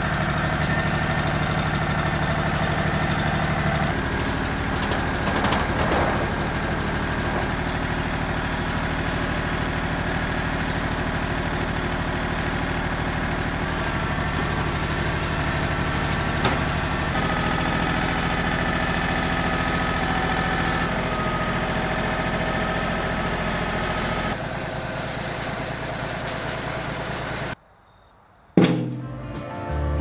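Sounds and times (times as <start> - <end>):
diesel tractor engine running: 0.0 - 27.6.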